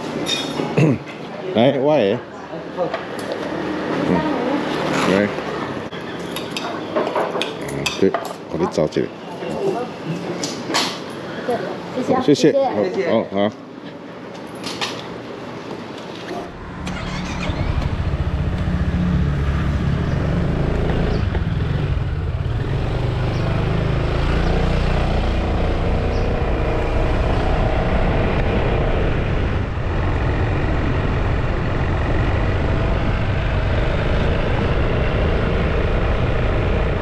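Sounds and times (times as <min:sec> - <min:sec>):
vehicle engine and road noise: 0:00.0 - 0:00.9, 0:01.6 - 0:12.0, 0:13.8 - 0:37.0.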